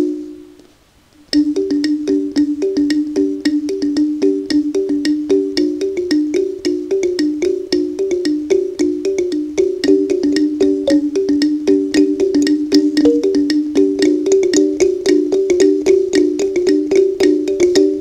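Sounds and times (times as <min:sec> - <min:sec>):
kalimba plucked notes: 0:00.0 - 0:00.6, 0:01.3 - 0:18.0.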